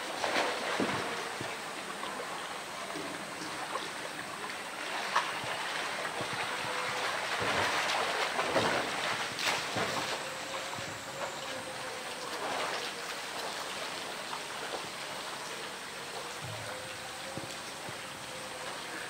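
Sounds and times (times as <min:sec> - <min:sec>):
pool water splashing and sloshing: 0:00.0 - 0:19.0
water running out of drum: 0:00.0 - 0:19.0.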